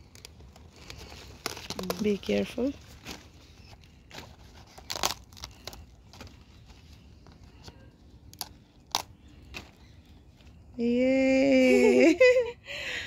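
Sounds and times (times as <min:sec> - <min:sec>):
cabbage leaves crackling: 0:00.0 - 0:11.3.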